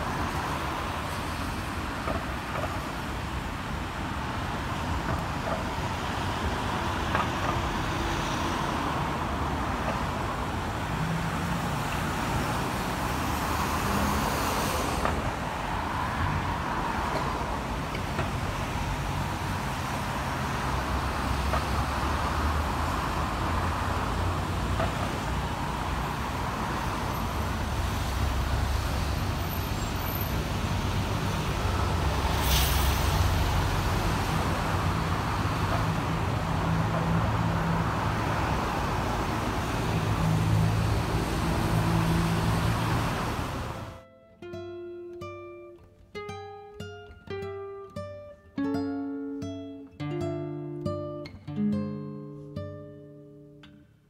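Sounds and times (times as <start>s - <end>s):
traffic on wet road: 0.0s - 44.0s.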